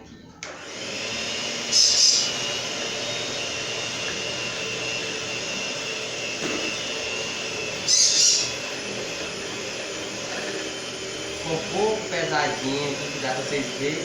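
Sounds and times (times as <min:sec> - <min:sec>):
electric mixer whining: 0:00.4 - 0:14.0.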